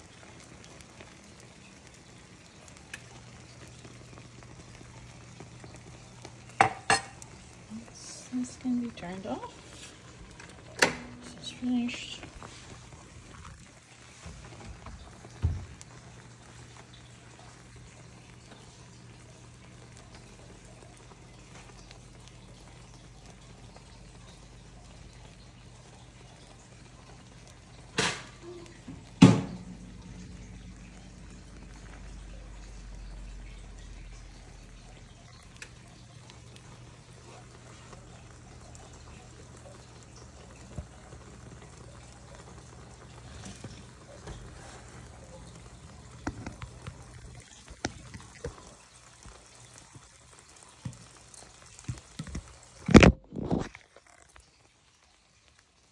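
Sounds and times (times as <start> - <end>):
low steady hum: 0.0 - 49.0
egg sizzling in a frying pan: 0.0 - 55.9
faint crackles: 0.0 - 55.9.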